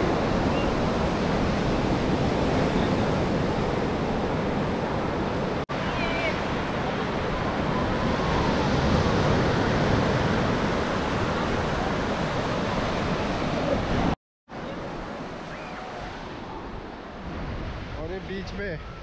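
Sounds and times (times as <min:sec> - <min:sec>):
waves breaking on beach: 0:00.0 - 0:19.0.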